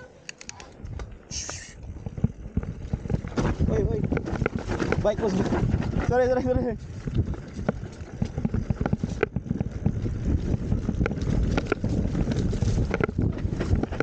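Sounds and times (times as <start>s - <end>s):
bike clicks and knocks: 0.2s - 1.2s, 1.8s - 14.0s
mountain bike rattling over dirt: 0.7s - 14.0s
wind buffeting microphone: 0.7s - 14.0s.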